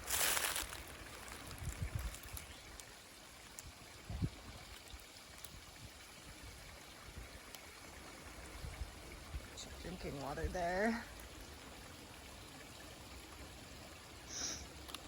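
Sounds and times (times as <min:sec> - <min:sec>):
creek running water: 0:00.0 - 0:15.0.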